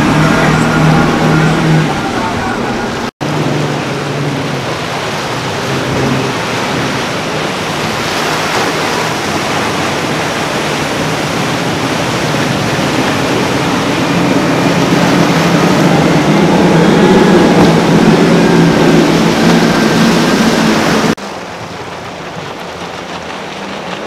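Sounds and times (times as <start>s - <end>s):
outboard engines droning: 0.0s - 24.0s
rush of wake and spray: 0.0s - 24.0s.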